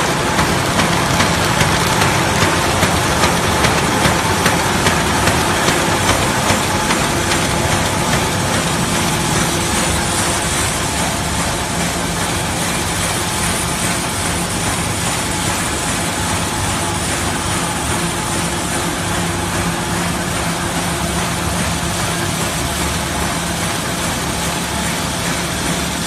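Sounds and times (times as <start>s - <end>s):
machine running: 0.0s - 26.0s.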